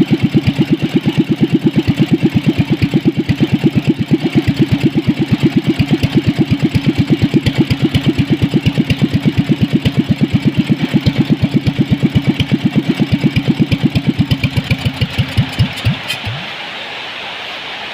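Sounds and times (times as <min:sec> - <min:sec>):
small engine idling: 0:00.0 - 0:16.6
steady hiss: 0:00.1 - 0:17.9.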